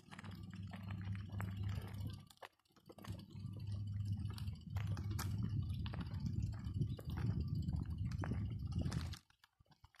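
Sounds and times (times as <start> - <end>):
rapid clicking and rattling: 0.0 - 10.0
tyres rolling over bricks: 0.0 - 10.0.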